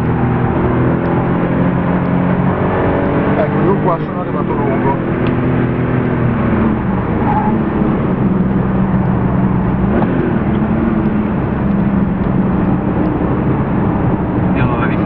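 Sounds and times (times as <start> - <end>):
car engine at speed: 0.0 - 15.0
road and wind noise: 0.0 - 15.0.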